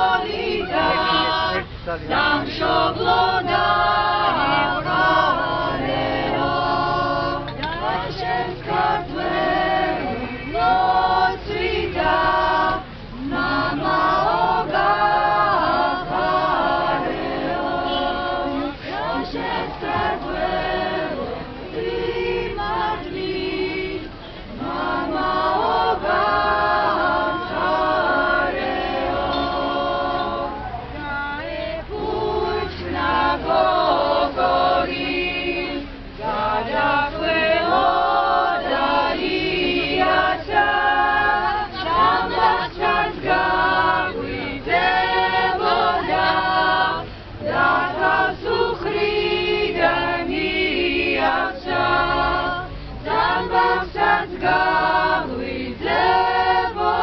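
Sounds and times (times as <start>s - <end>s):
crowd singing unaccompanied: 0.0s - 57.0s.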